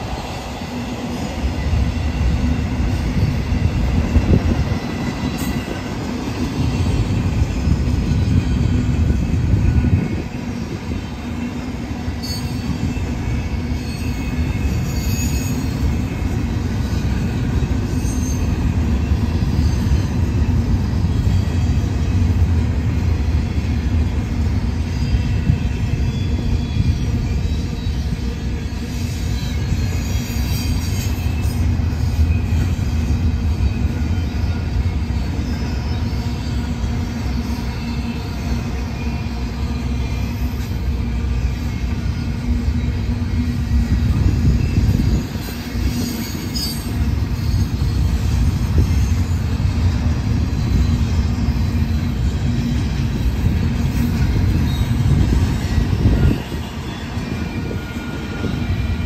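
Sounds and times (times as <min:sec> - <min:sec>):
high-pitched wheel squeals: 0:00.0 - 0:59.0
train wheels rumbling on rail: 0:00.0 - 0:59.0.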